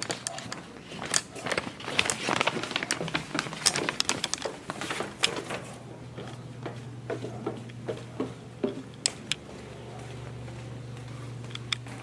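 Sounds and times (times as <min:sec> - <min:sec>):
footsteps down wooden stairs: 0:00.2 - 0:12.0.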